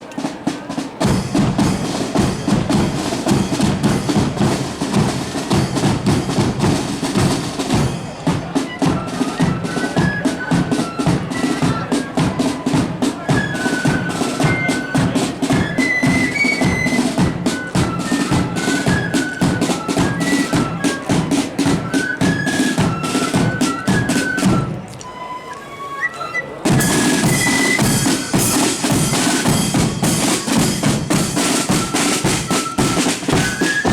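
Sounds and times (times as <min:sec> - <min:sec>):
bass and snare drums beating: 0:00.0 - 0:24.9, 0:26.6 - 0:33.9
marching band playing: 0:00.0 - 0:33.9.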